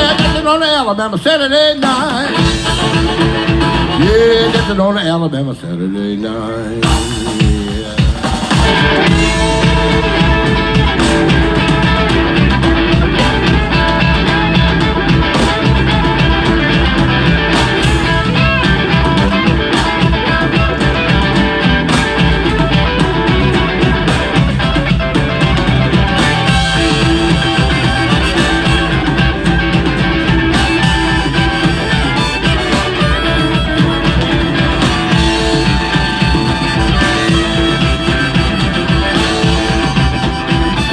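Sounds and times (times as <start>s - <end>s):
bass: 0.0s - 0.6s, 2.3s - 5.0s, 6.8s - 40.9s
drums: 0.0s - 40.9s
guitar: 0.0s - 40.9s.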